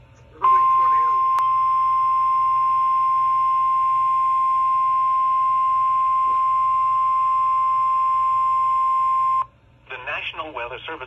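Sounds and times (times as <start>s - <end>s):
steady alarm tone from radio speaker: 0.4s - 9.5s.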